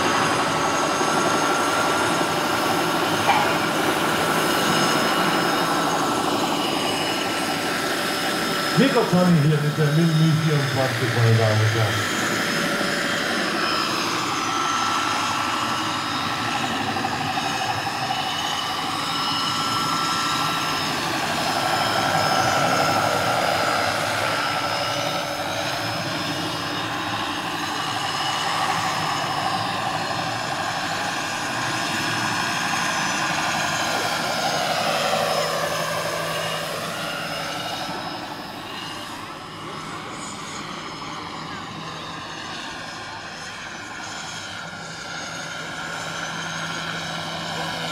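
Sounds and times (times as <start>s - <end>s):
model helicopter rotor whine: 0.0s - 47.9s.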